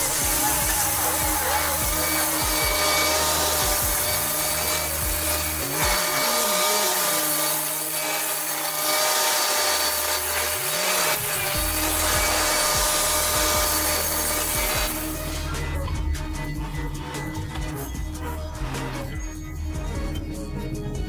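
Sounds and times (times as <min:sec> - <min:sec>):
mulcher grinding through brush: 0:00.0 - 0:20.4.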